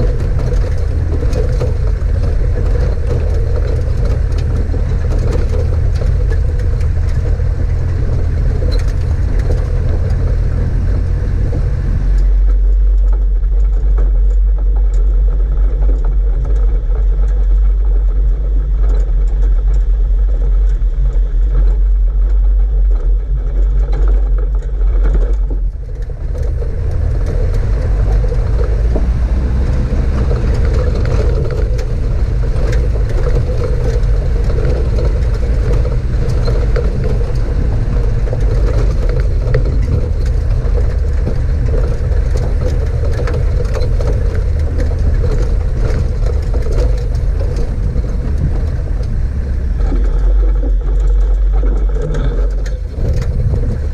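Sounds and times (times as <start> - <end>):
engine and tyres rumbling: 0.0 - 53.9.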